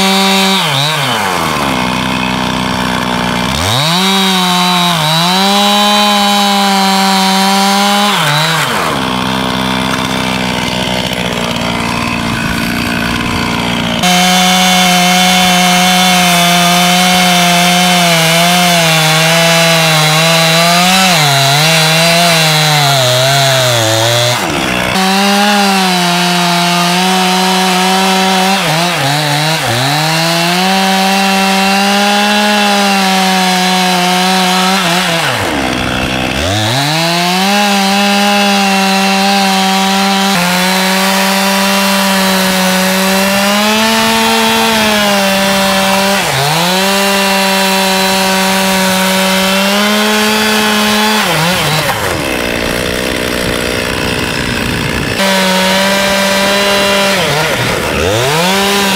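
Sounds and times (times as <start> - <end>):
chainsaw cutting log: 0.0 - 58.9.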